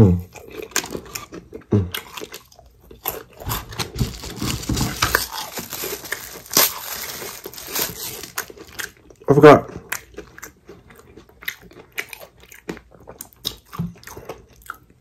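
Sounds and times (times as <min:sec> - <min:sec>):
fried chicken crunching: 0:00.3 - 0:15.0.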